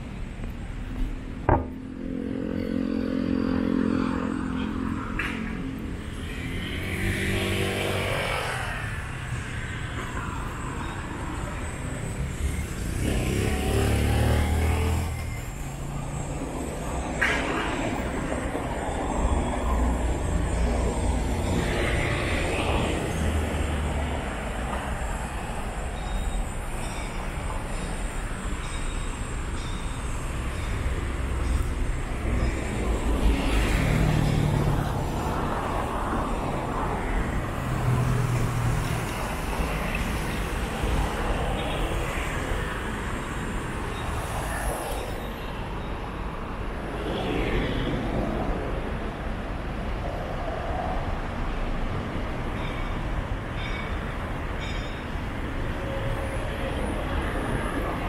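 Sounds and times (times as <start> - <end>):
traffic rumble: 0.0 - 58.0
vehicles passing: 0.0 - 58.0.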